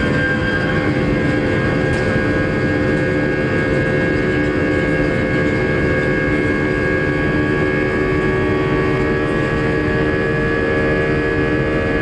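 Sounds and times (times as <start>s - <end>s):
jet engine rumble from cabin: 0.0s - 12.0s.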